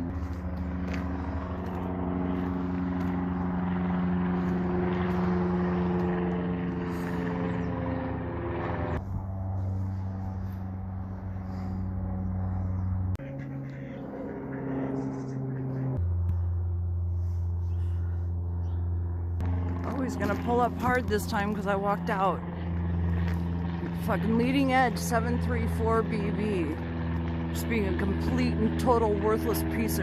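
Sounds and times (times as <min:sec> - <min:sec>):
propeller airplane droning: 0:00.0 - 0:30.0.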